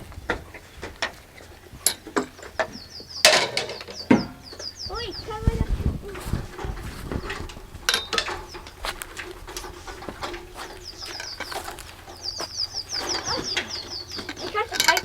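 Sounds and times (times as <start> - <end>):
small bird chirping: 1.4 - 15.0.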